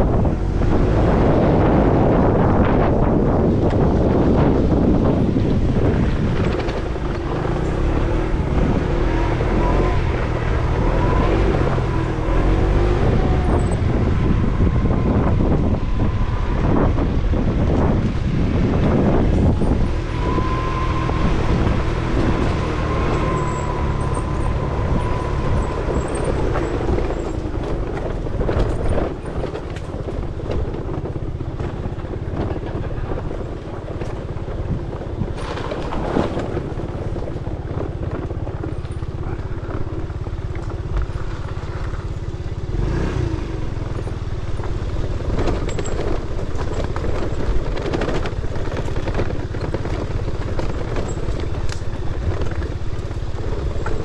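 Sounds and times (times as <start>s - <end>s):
scooter motor running: 0.0s - 54.0s
scooter frame clattering over bumps: 1.1s - 42.7s, 43.7s - 54.0s.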